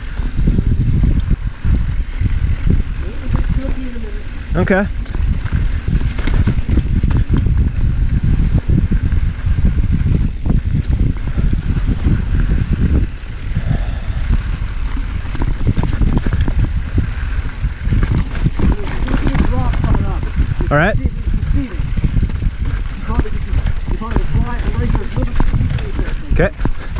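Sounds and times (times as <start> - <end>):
bike rattling and knocking: 0.0 - 26.9
bike tyres rumbling over rocks: 0.0 - 26.9
wind buffeting microphone: 0.0 - 26.9.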